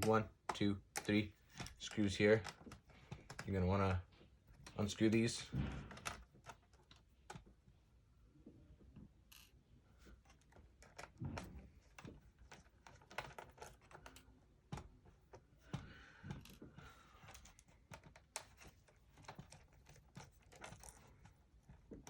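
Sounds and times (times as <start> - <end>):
laptop handling: 0.0 - 7.6, 10.0 - 22.0.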